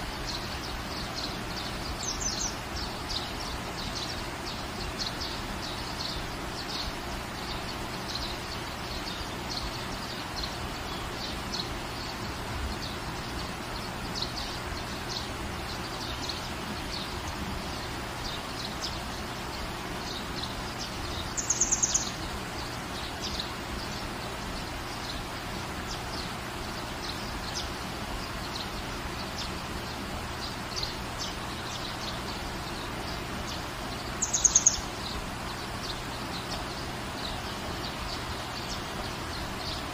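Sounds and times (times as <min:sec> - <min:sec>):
small birds chirping: 0:00.0 - 0:39.9
steady rain: 0:00.0 - 0:39.9.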